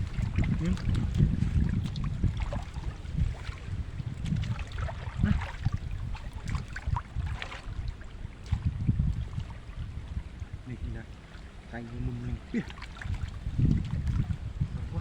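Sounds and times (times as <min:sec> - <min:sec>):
constant low rumble: 0:00.0 - 0:15.0
water sloshing and splashing: 0:00.0 - 0:15.0.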